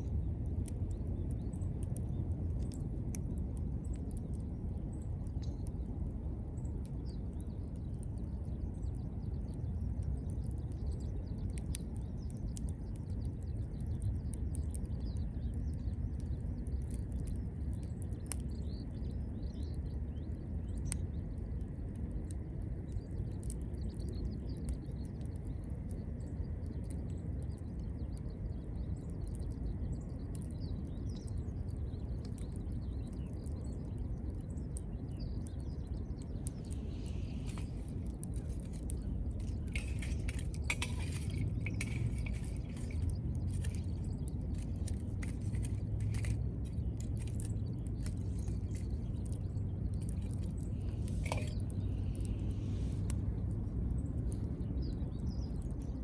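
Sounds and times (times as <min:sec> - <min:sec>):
low steady rumble: 0:00.0 - 0:56.0
wood fire crackling: 0:00.0 - 0:56.0.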